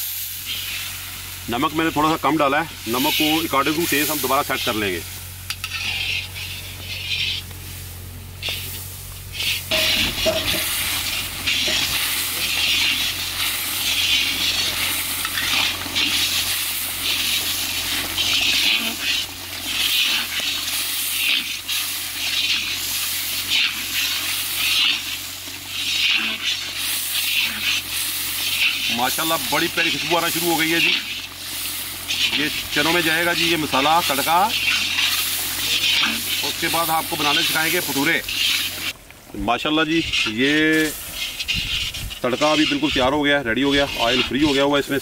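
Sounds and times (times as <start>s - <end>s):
onions sizzling in hot oil: 0.0s - 45.0s
metal ladle stirring: 5.5s - 7.5s, 9.4s - 39.0s, 40.0s - 45.0s.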